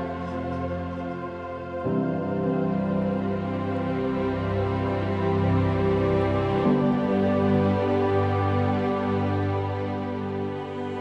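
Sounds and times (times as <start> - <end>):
slow new-age music: 0.0 - 11.0.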